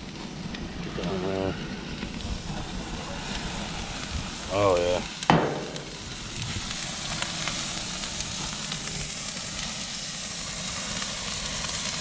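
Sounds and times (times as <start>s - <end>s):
lobster sizzling on a grill: 0.0s - 12.0s
small crackles: 0.0s - 12.0s.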